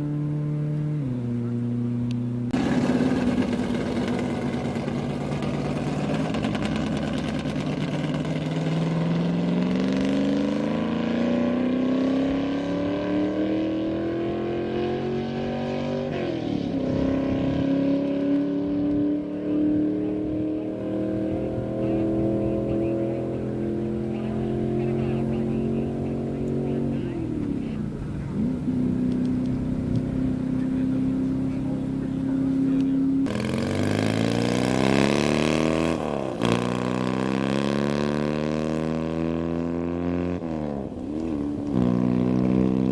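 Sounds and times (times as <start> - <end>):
racing engine accelerating hard: 2.5 - 42.9.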